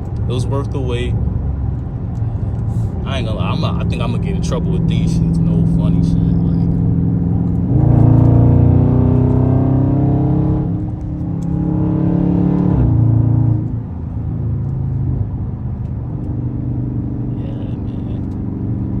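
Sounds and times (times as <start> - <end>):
car exhaust roaring: 0.0 - 19.0.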